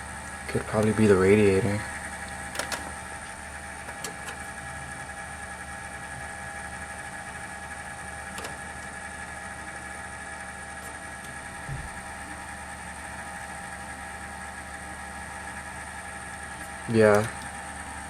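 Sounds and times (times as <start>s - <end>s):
computer humming and whining: 0.0s - 18.0s
fan vibration noise: 0.0s - 18.0s.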